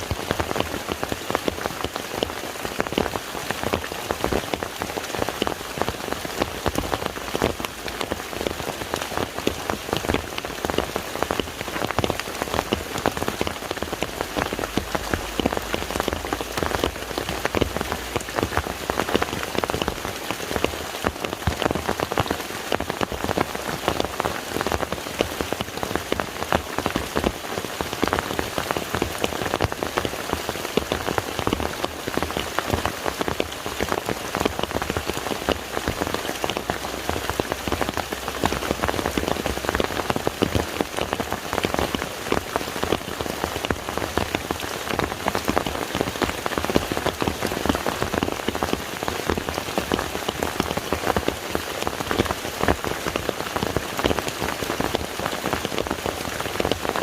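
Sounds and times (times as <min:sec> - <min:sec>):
rain falling on a lake: 0:00.0 - 0:57.0.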